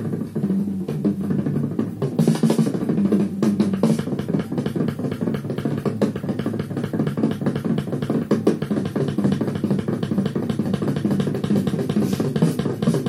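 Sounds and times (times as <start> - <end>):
busy drum kit: 0.0 - 13.0
jazz from a turntable: 0.0 - 13.0
low bass line: 0.0 - 13.0.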